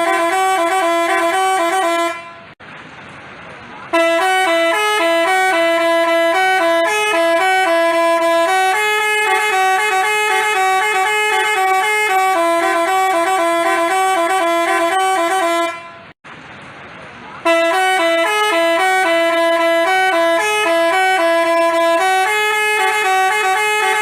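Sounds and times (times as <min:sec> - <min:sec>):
multi-tone bus horn tune: 0:00.0 - 0:02.6, 0:03.9 - 0:16.2, 0:17.4 - 0:24.0.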